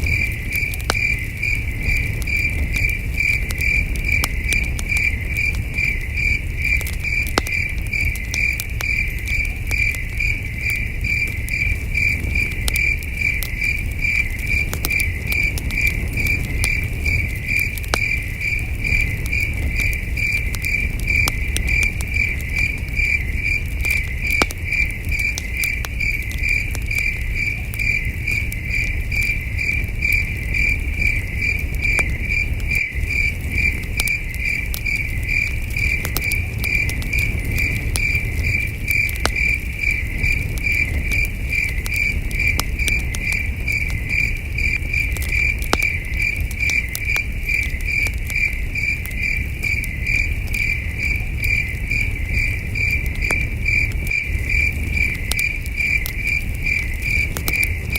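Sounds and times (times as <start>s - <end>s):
campfire crackling: 0.0s - 57.9s
crickets chirping: 0.0s - 57.9s.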